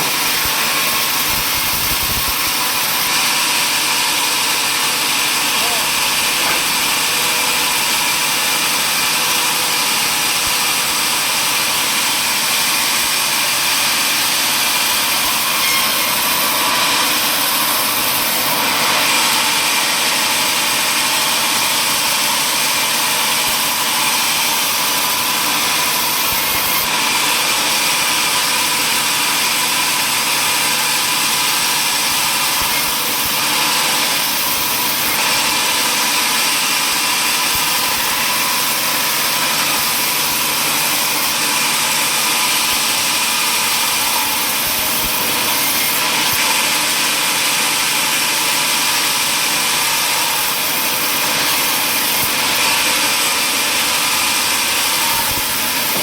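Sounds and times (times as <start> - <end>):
table saw running: 0.0 - 56.0.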